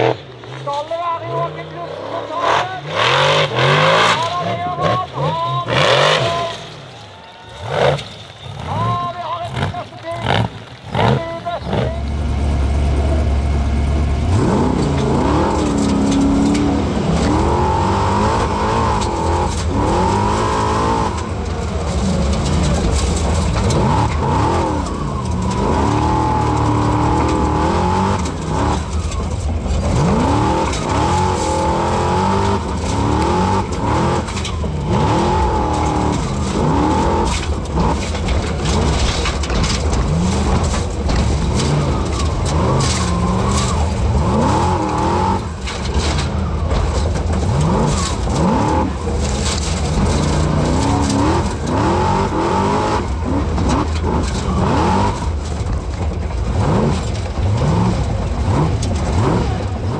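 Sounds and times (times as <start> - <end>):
race car engine revving: 0.0 - 59.9
chassis knocks and rattles: 5.3 - 59.9.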